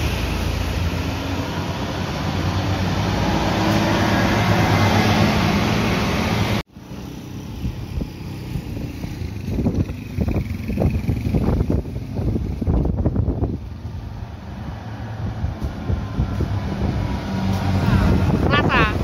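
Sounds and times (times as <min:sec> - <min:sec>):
quiet street noise: 0:00.0 - 0:19.0
truck diesel engine passing: 0:00.0 - 0:19.0
tyre and road noise: 0:00.0 - 0:19.0.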